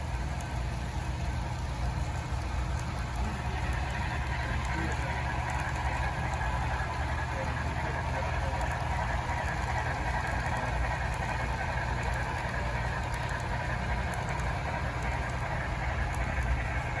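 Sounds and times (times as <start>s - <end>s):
model train running past: 0.0s - 17.0s.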